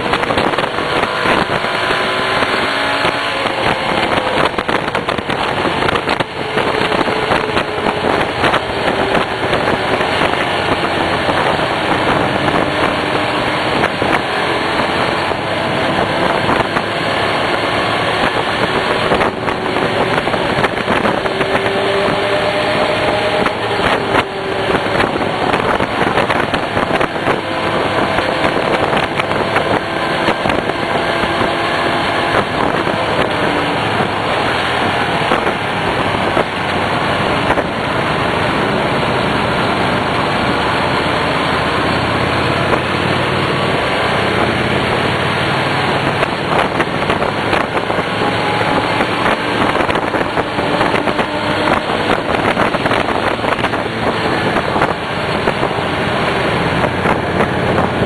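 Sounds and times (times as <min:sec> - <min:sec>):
motorcycle engine running: 0:00.0 - 0:58.0
rushing noise: 0:00.0 - 0:58.0.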